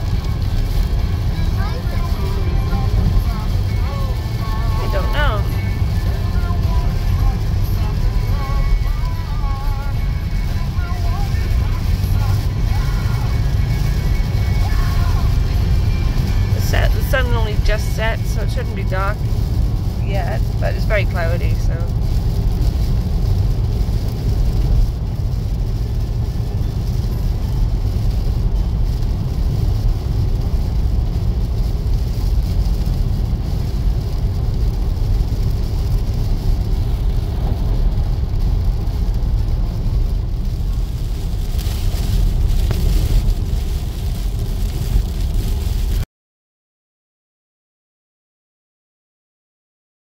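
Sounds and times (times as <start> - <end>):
car driving rumble from cabin: 0.0 - 46.0.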